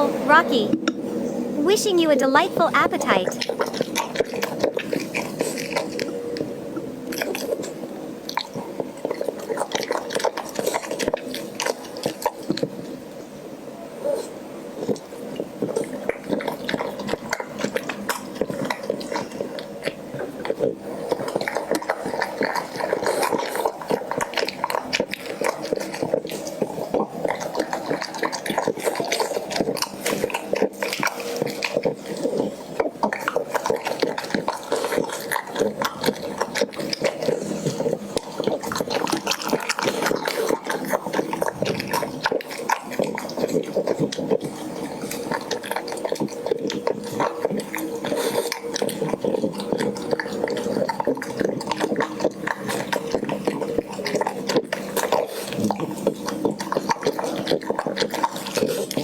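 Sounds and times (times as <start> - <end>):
dog chewing food: 1.7 - 13.0, 14.0 - 59.0.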